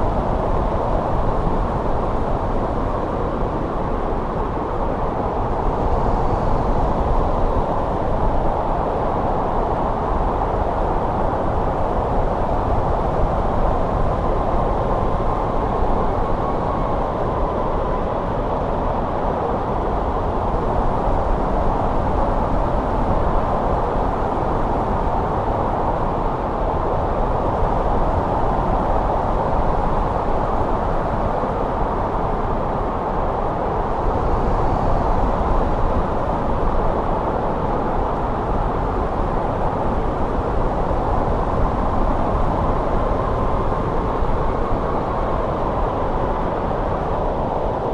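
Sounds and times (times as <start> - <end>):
wind blowing steadily: 0.0 - 47.9.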